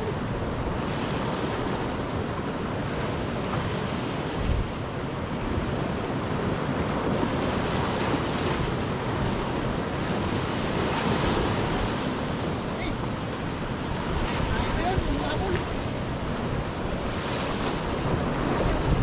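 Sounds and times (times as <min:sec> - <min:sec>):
sea waves breaking on rocks: 0:00.0 - 0:19.0
wind rumbling on microphone: 0:00.0 - 0:19.0.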